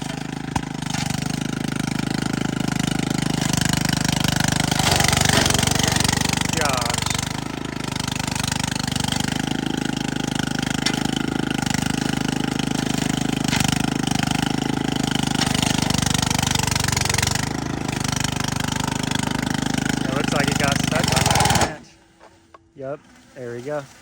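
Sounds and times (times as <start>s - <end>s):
brush mower engine running: 0.0s - 24.0s.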